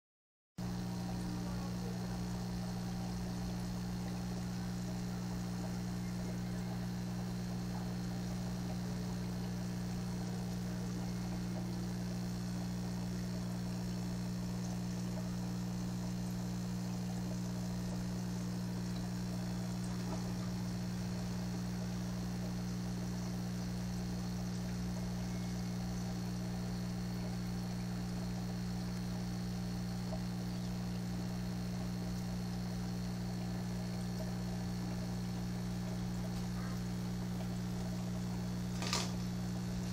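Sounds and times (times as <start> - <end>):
water bubbling: 0.6 - 25.2, 30.0 - 39.9
air pump humming: 0.6 - 39.9.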